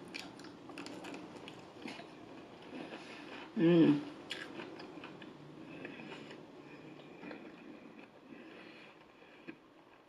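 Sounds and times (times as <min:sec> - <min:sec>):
person chewing food: 0:00.0 - 0:03.6, 0:04.2 - 0:10.0.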